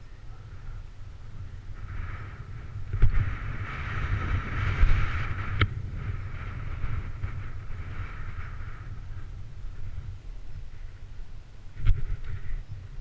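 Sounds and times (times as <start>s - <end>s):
bicycle tyres rolling on gravel: 0.0s - 13.0s
wind buffeting microphone: 0.0s - 13.0s.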